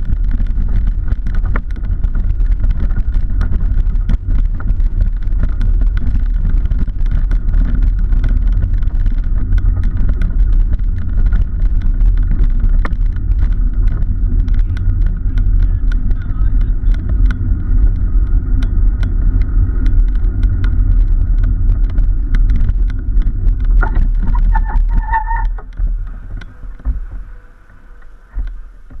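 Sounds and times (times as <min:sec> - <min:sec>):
bicycle rattles and clicks: 0:00.0 - 0:29.0
wind and road rumble: 0:00.0 - 0:29.0.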